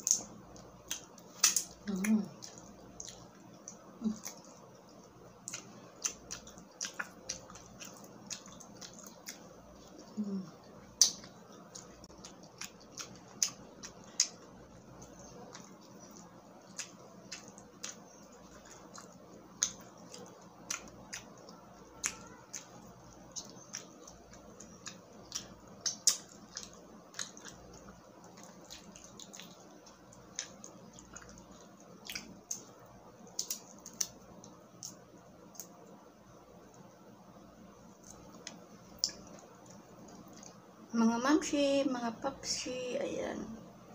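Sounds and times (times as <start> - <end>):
mouth clicks and crackles: 0.0 - 36.0, 37.9 - 40.6
wet chewing: 0.0 - 36.0, 37.7 - 40.6.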